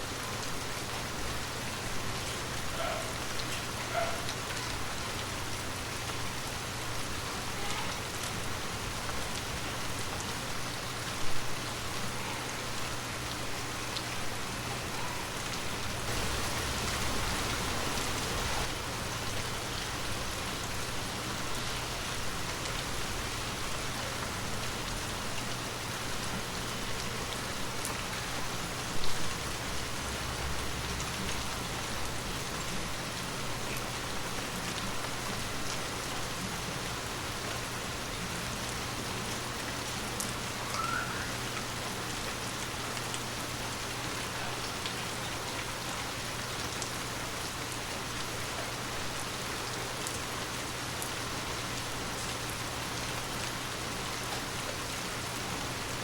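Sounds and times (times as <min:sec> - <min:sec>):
heavy rain on hard surfaces: 0:00.0 - 0:56.0.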